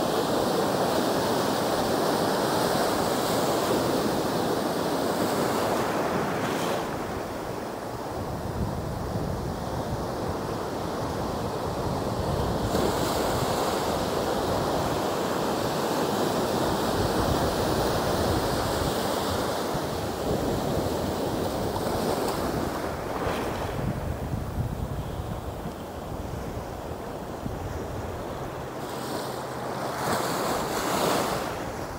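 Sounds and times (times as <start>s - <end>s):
ocean surf breaking: 0.0s - 31.9s
wind rumbling on microphone: 3.0s - 31.9s.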